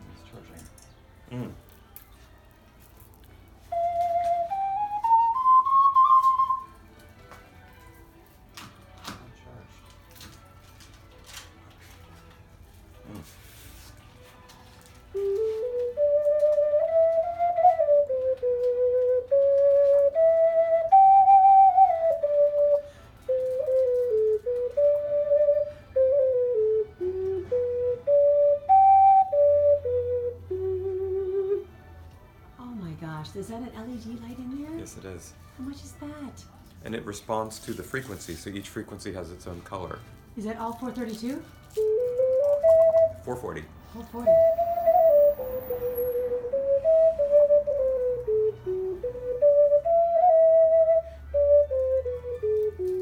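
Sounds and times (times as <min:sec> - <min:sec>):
ocarina melody: 0:00.0 - 0:53.0.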